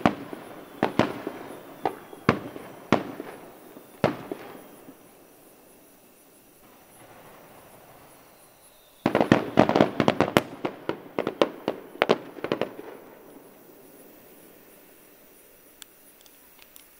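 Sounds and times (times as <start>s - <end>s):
firework bangs and crackles: 0.0s - 14.6s.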